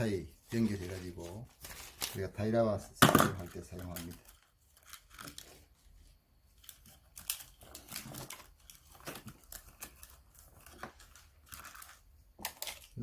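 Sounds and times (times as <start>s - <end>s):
plastic packets crinkling: 0.1s - 5.8s, 6.5s - 13.0s.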